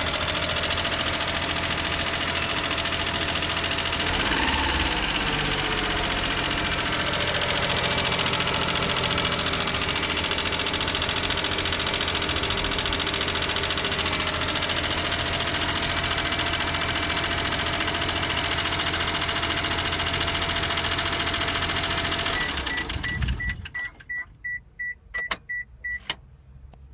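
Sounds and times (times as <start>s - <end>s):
engine idling with fast ticking: 0.0s - 23.7s.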